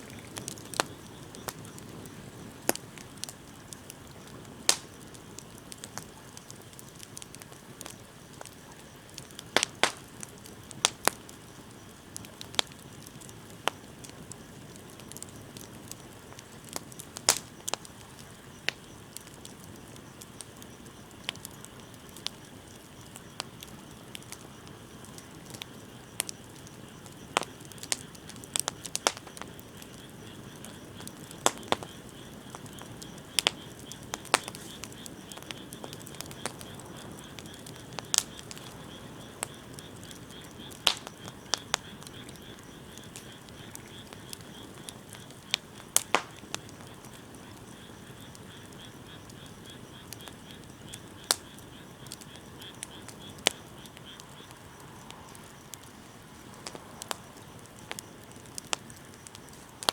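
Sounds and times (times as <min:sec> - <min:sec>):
bonfire hissing: 0:00.0 - 0:59.9
fire popping and snapping: 0:00.0 - 0:59.9.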